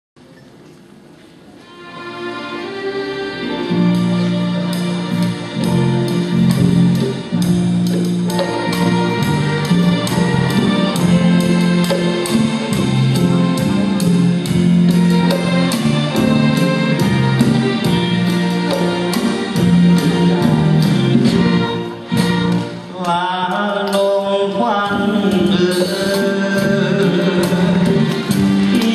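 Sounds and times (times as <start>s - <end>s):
band and orchestra playing: 1.5s - 28.9s.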